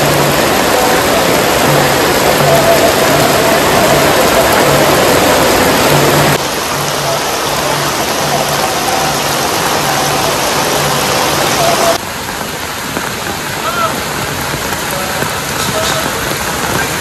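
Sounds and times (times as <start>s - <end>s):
heavy rain on paving and roofs: 0.0s - 17.0s.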